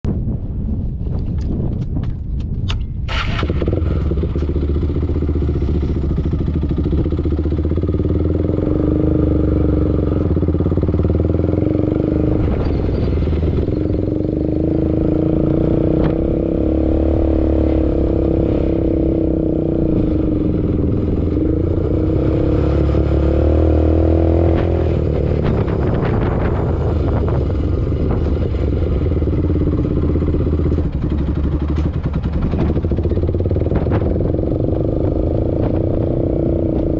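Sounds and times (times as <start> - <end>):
atv engine revving: 3.1 - 36.9.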